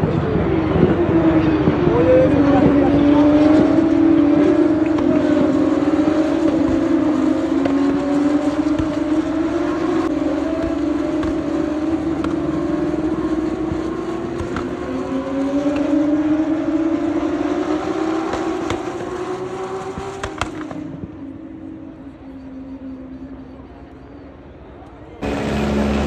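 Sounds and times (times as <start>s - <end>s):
race car engines at high revs: 0.0s - 24.5s, 25.2s - 26.0s.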